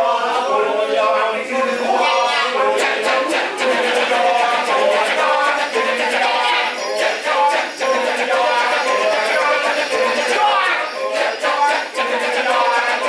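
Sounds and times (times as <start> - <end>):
men chanting in rhythm: 0.0 - 13.0.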